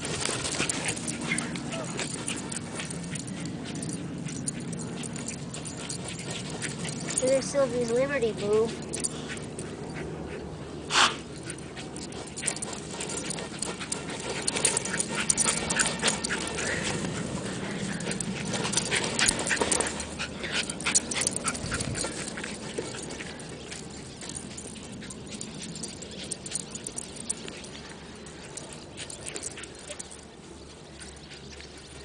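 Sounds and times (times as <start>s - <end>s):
dog breathing and noises: 0.0s - 32.0s.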